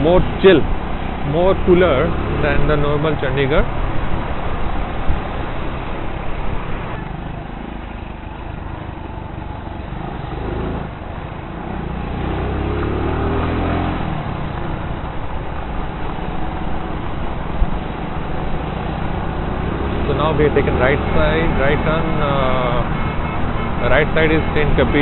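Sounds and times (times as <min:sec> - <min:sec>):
motorcycle engine hum: 0:00.0 - 0:25.0
wind and road noise: 0:00.0 - 0:25.0.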